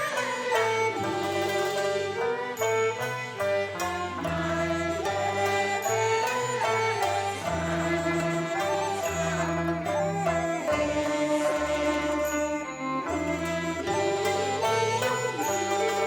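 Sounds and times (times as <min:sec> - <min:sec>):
opera instrumental ensemble: 0:00.0 - 0:16.0.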